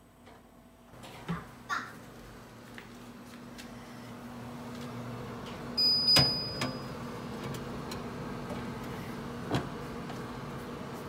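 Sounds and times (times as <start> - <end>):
oven humming: 0.0 - 11.0.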